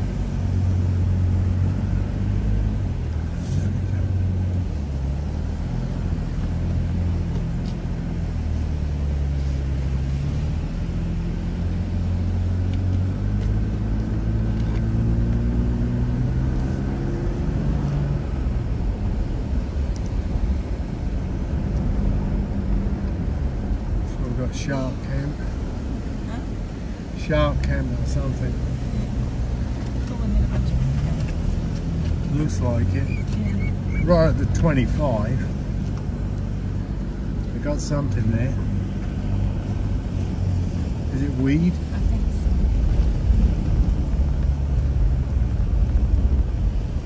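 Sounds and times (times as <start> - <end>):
vehicle engine droning: 0.0 - 47.0.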